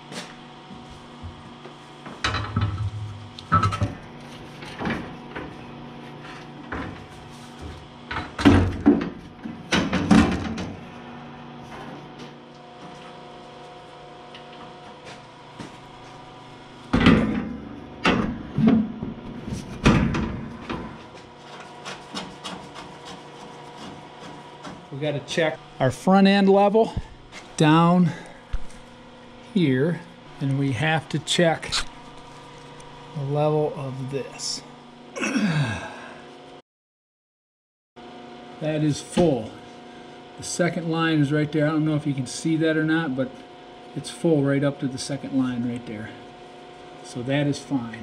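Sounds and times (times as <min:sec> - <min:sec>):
steady hum: 0:00.0 - 0:36.6, 0:38.6 - 0:48.0.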